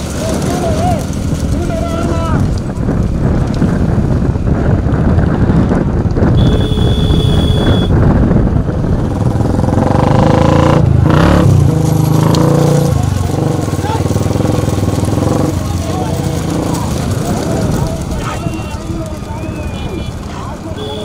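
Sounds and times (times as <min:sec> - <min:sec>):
vehicle engines running loudly: 0:00.0 - 0:21.0.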